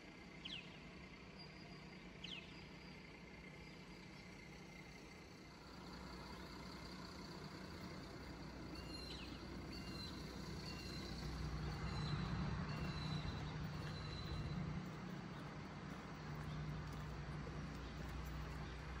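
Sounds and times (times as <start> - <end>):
truck engine rumbling: 0.1 - 19.0.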